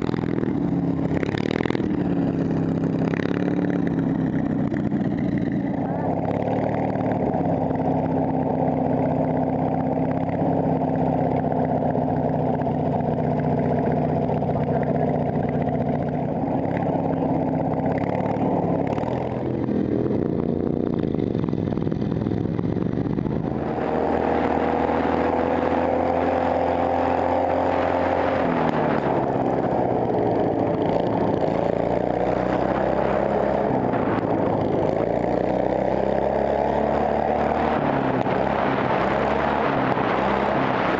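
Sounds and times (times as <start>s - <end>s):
lawn mower engine revving: 0.0s - 40.9s.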